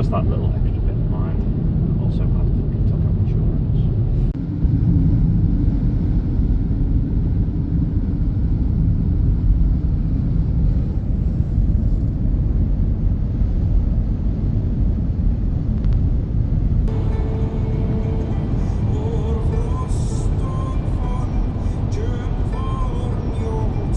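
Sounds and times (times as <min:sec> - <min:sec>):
car engine and tyre rumble: 0:00.0 - 0:23.9.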